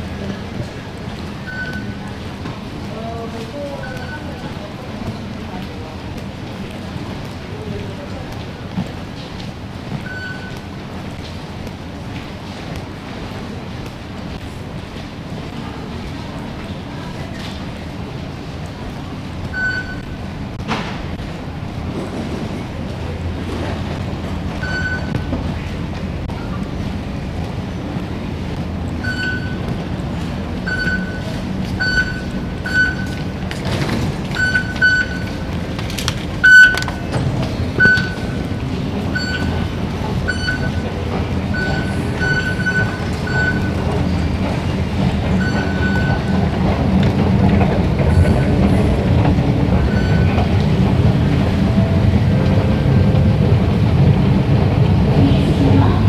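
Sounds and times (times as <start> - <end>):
low rumble of station machinery: 0.0 - 56.0.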